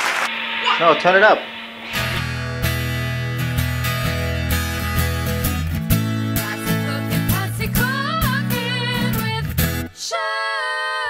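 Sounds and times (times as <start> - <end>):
steady low notes: 0.2 - 9.8
strummed guitar chords: 0.3 - 9.9.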